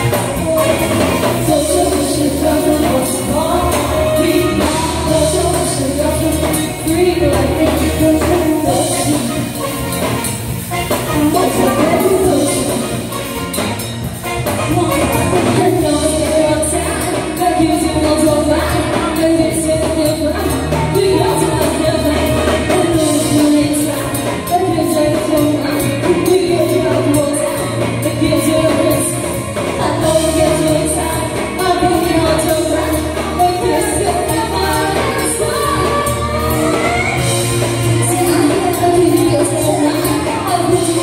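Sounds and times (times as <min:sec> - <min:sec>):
person singing: 0:00.0 - 0:13.6, 0:14.2 - 0:41.0
drum and cymbal beat: 0:00.0 - 0:41.0
live band playing: 0:00.0 - 0:41.0.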